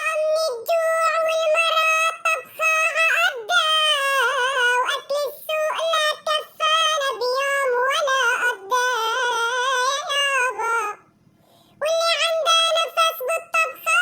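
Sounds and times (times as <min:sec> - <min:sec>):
pitched-up voice singing: 0:00.0 - 0:11.1, 0:11.8 - 0:14.0.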